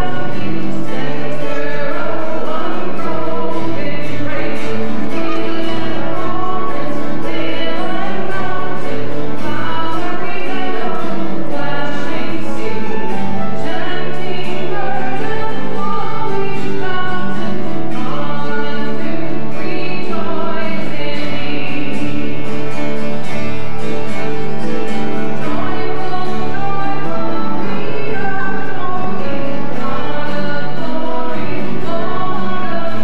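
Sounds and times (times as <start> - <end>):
choir singing a hymn: 0.0 - 22.7, 24.8 - 33.0.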